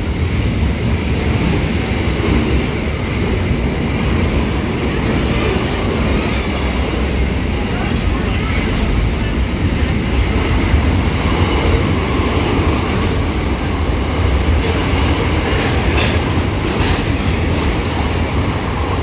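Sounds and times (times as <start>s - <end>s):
freight train rumbling: 0.0s - 19.0s
wheels clacking on rails: 0.0s - 19.0s.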